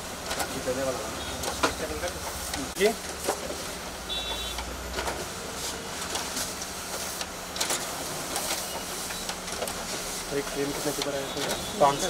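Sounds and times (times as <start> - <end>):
photocopier whirring: 0.0 - 12.0.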